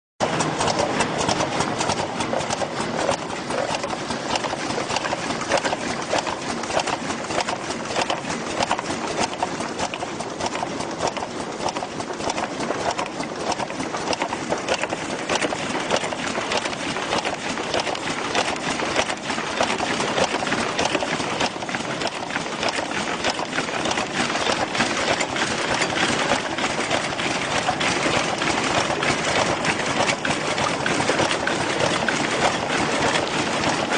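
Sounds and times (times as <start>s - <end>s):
packing machine clattering: 0.2s - 33.9s.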